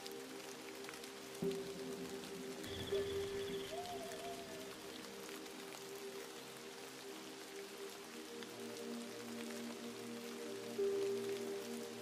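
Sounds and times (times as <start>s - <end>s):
rain pattering: 0.0s - 12.0s
soft music of held tones: 0.0s - 12.0s.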